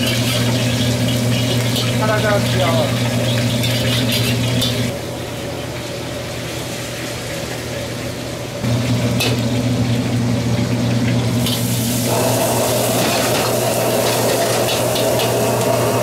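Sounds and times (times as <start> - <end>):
vegetables sizzling in wok: 0.0 - 16.0
wok stove low drone: 0.0 - 16.0.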